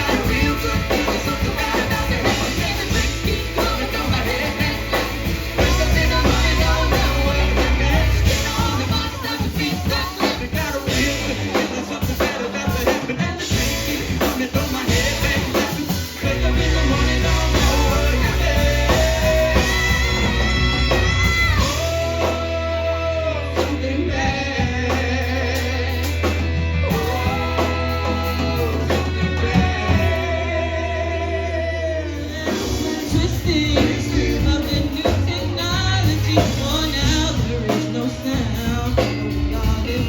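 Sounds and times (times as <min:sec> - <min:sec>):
live rock band playing: 0:00.0 - 0:40.0
person singing: 0:00.0 - 0:40.0.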